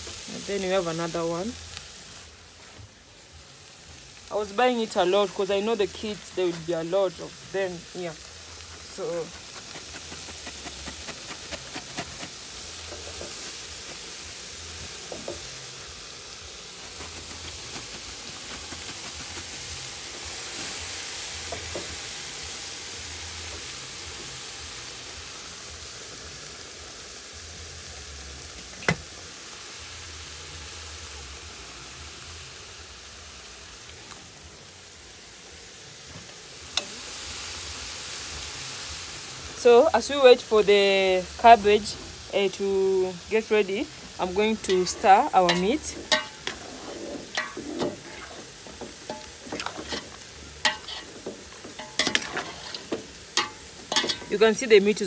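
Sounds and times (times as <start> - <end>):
cabbage sizzling in a pot: 0.0 - 55.0.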